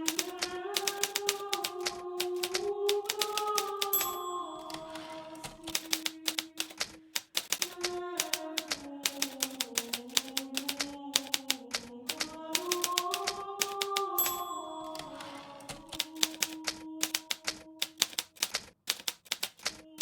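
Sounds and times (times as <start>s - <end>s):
typewriter keystroke clacks: 0.0s - 20.0s
typewriter margin bell: 0.0s - 20.0s.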